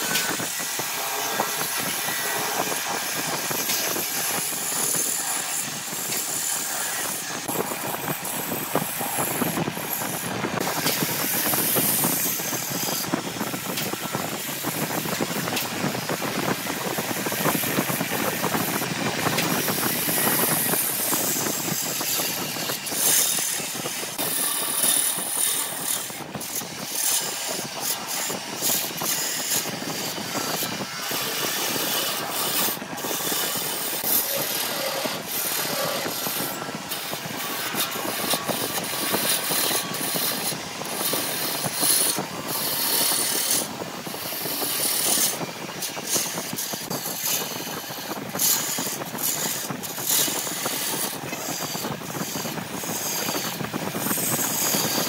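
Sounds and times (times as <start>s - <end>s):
lathe tool scraping wood: 0.0s - 55.0s.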